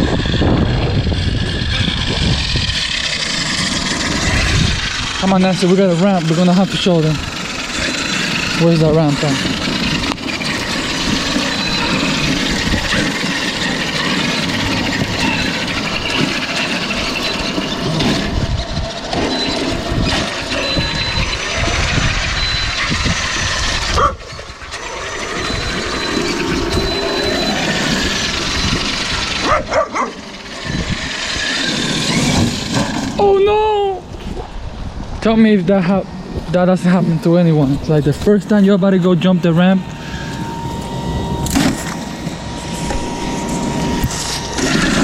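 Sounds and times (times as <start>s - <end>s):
electric toy truck motor whining: 0.0s - 34.0s, 35.8s - 45.0s
wind buffeting microphone: 0.0s - 45.0s.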